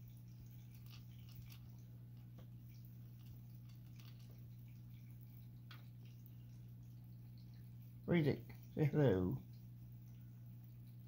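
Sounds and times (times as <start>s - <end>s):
faint clicks of rabbit eating: 0.0s - 11.0s
low steady hum: 0.0s - 11.0s.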